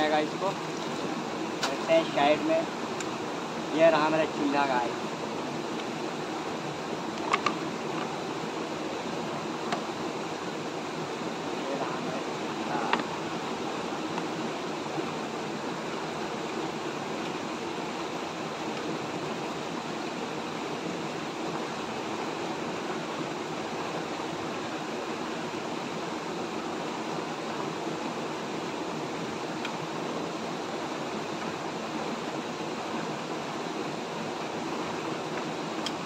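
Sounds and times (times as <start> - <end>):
stream rushing over stones: 0.0 - 36.0.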